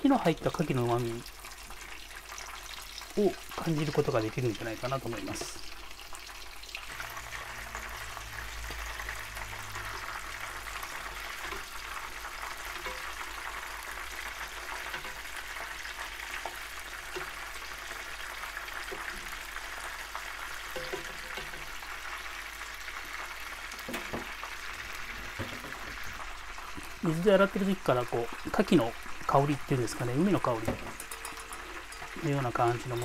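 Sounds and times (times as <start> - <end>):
deep-frying sizzle: 0.0 - 33.0.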